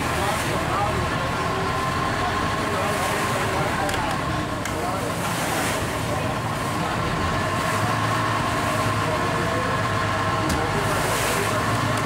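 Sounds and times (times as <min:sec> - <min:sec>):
boat engine droning: 0:00.0 - 0:12.0
water washing along hull: 0:00.0 - 0:12.0.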